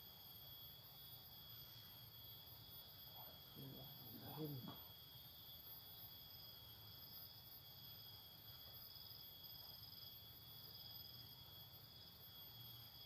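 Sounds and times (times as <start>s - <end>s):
insects chorus: 0.0s - 13.0s
low background hum: 0.0s - 13.0s.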